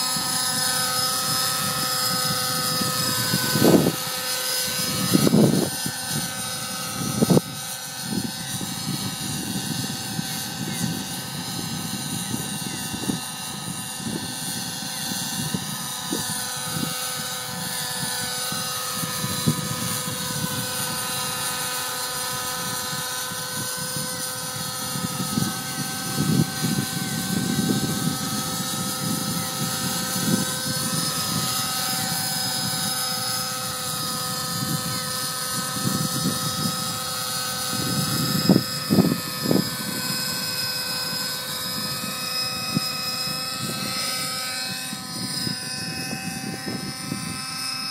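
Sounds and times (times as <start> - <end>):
model helicopter whine: 0.0 - 47.9
wind gusts on microphone: 0.0 - 47.9.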